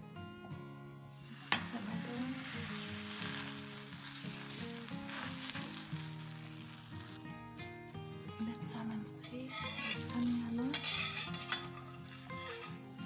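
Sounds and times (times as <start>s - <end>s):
background music: 0.0s - 13.0s
dough sizzling: 1.1s - 13.0s
dough slapping onto pan: 1.1s - 13.0s.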